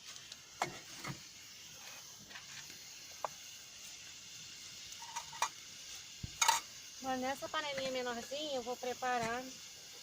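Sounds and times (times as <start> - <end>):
camp stove hissing: 0.0 - 10.0.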